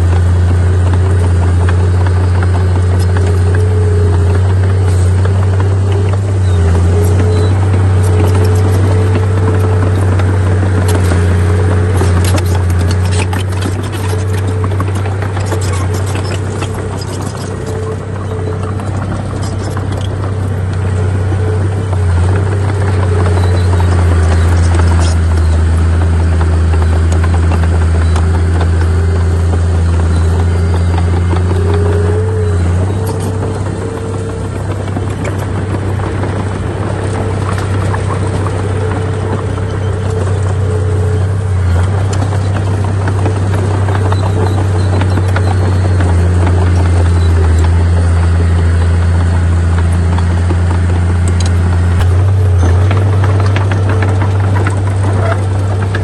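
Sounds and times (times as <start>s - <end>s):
heavy diesel machinery engine drone: 0.0s - 56.0s.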